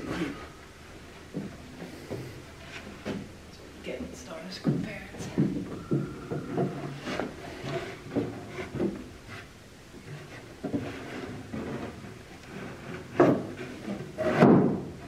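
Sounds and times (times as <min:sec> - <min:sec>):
wooden knocks and scrapes: 0:01.2 - 0:03.4, 0:04.6 - 0:15.0.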